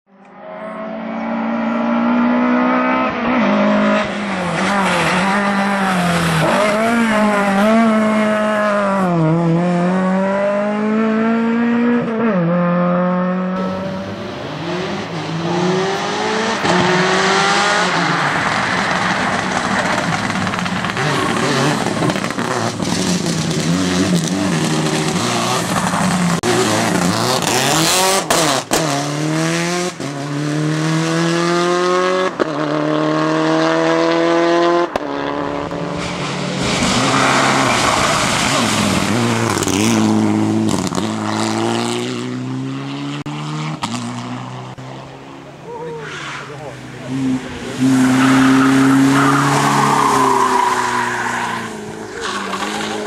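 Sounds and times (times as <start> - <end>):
rally car engines revving: 0.1 - 53.0
tyre and road noise: 0.1 - 53.0.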